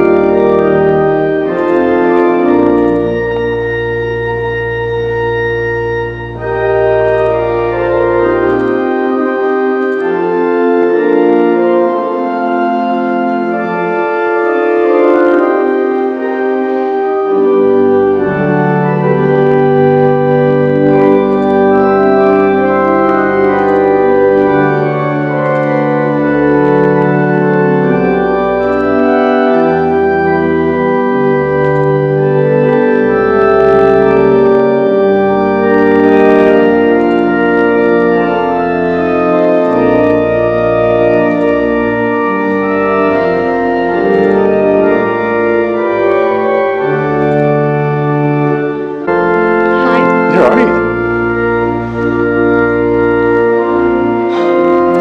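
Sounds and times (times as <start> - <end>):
organ playing slow chords: 0.0 - 55.0.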